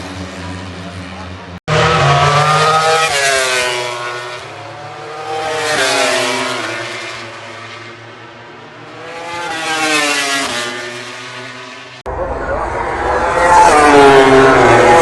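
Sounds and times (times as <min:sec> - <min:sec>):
racing motorcycles passing at speed: 0:00.0 - 0:15.0.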